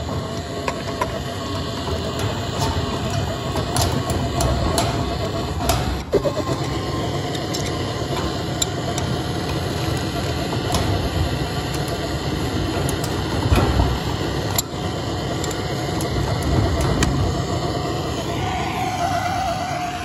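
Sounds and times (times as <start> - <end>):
blowtorch flame roaring: 0.0 - 20.0.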